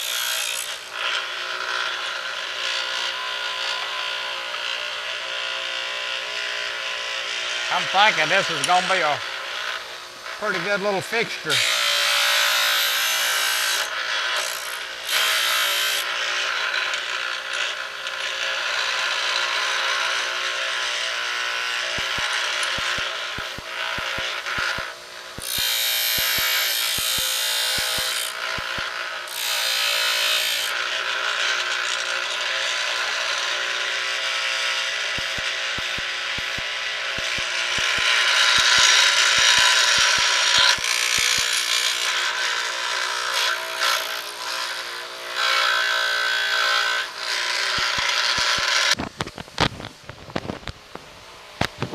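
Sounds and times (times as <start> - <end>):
grinder grinding metal tool: 0.0 - 49.0.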